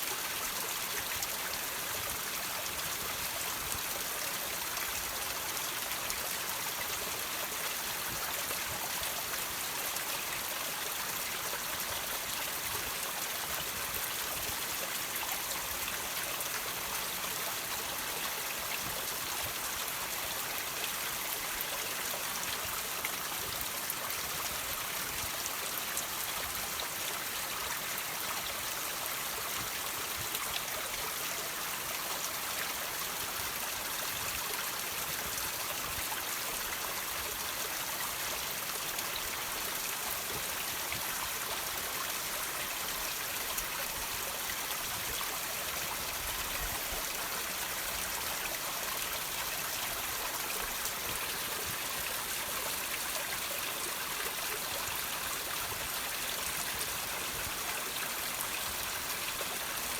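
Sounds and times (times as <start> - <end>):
water trickling over rocks: 0.0 - 59.9.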